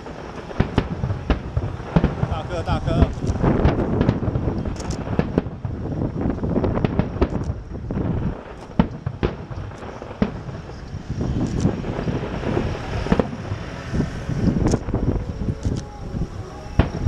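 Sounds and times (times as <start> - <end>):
fireworks booming: 0.0 - 17.0
fireworks sharp cracks: 0.0 - 17.0.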